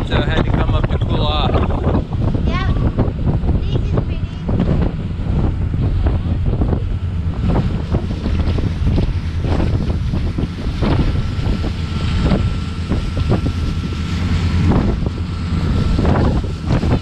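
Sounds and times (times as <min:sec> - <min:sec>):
boat engine rumble: 0:00.0 - 0:17.0
wind buffeting microphone: 0:00.0 - 0:17.0.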